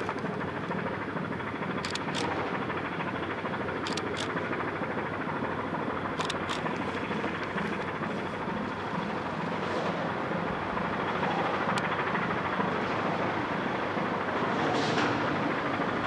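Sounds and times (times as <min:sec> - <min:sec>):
ship diesel engine throbbing: 0:00.0 - 0:16.0.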